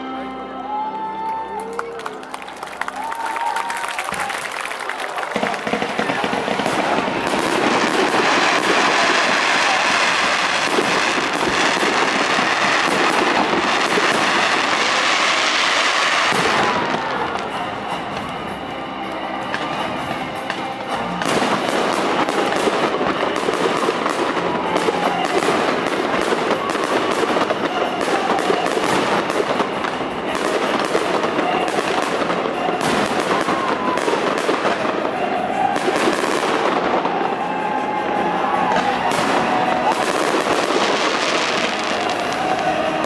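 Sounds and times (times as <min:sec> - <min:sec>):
faint music: 0:00.0 - 0:43.0
crowd applauding: 0:01.2 - 0:43.0.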